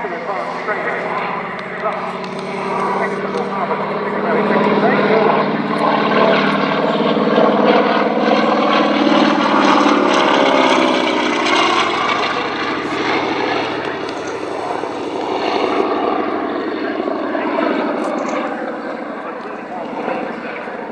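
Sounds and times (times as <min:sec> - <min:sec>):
propeller aircraft flying past: 0:00.0 - 0:20.9.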